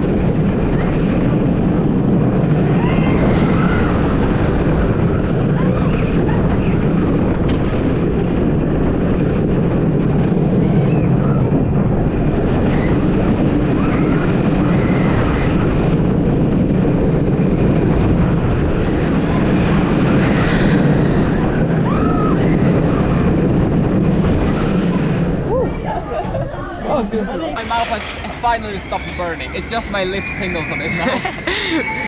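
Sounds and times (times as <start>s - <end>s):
wind rushing on microphone: 0.0s - 26.9s
roller coaster rumbling on track: 0.0s - 32.0s.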